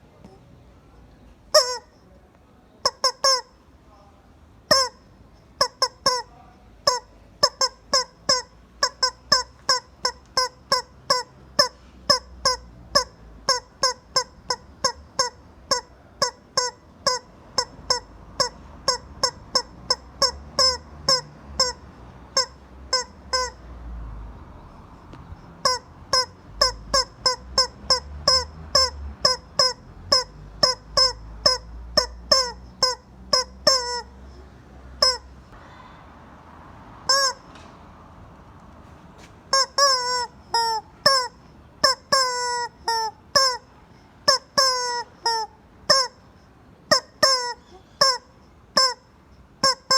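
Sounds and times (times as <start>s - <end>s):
rubber chicken toy squawking: 1.5s - 2.0s, 2.8s - 3.7s, 4.6s - 23.7s, 25.1s - 35.4s, 37.0s - 37.5s, 39.5s - 49.9s.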